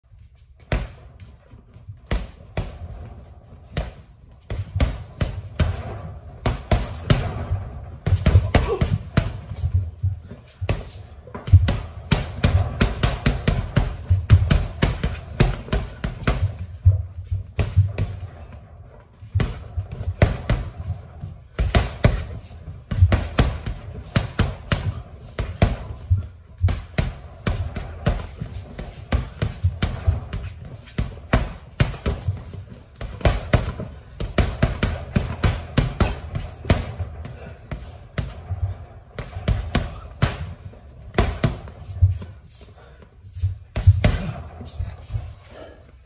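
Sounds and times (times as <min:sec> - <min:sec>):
gloves punching heavy bag: 0:00.3 - 0:46.0.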